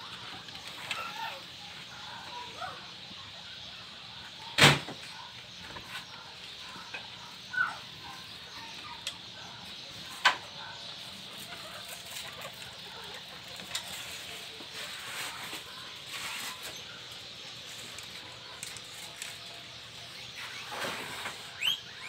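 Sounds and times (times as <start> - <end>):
guinea pig squeak: 0.1 - 3.9, 5.6 - 22.0.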